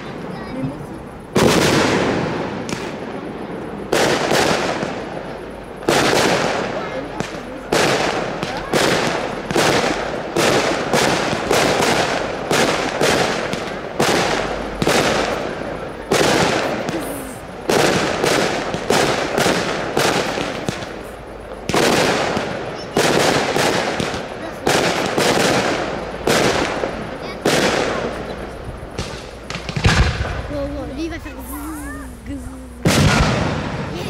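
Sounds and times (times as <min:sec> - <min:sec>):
firework shells bursting: 0:00.0 - 0:34.0.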